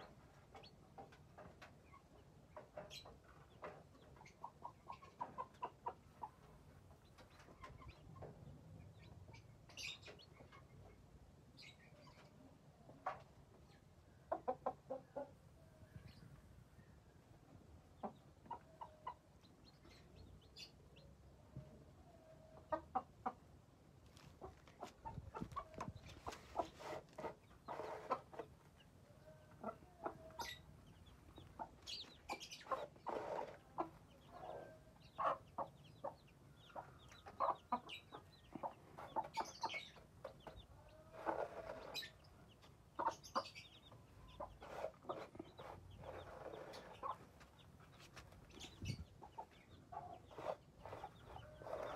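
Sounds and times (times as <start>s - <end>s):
hen clucking: 0.0s - 11.0s, 11.6s - 16.2s, 17.8s - 21.1s, 22.2s - 23.6s, 24.2s - 51.9s
chicks peeping: 0.0s - 21.9s, 22.5s - 51.9s.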